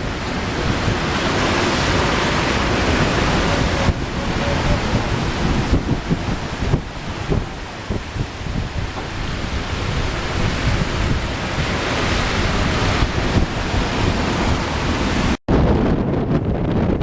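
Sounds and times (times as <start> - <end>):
rushing water: 0.0 - 15.4
wind buffeting microphone: 0.0 - 17.0.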